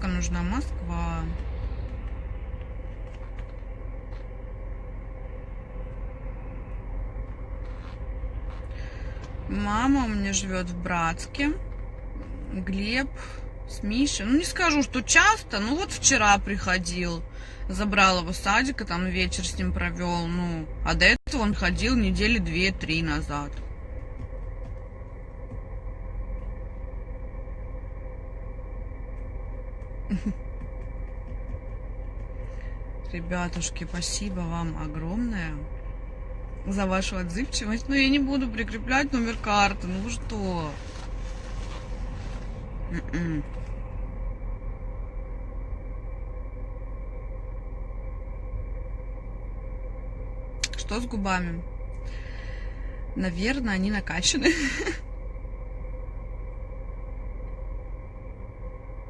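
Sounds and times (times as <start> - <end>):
car running rumble: 0.0 - 59.0
faint steady hum: 0.0 - 59.0.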